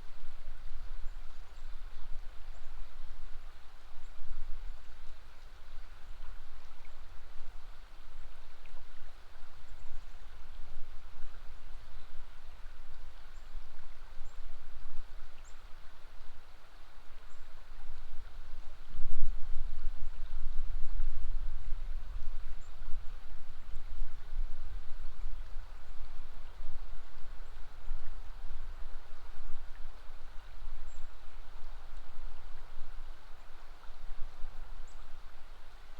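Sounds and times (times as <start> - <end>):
river water flowing: 0.0 - 35.9.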